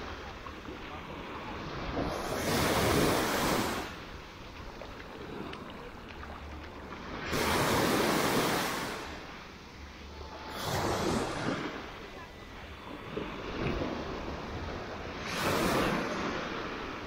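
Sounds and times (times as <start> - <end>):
small waves breaking on sand: 0.0 - 17.0.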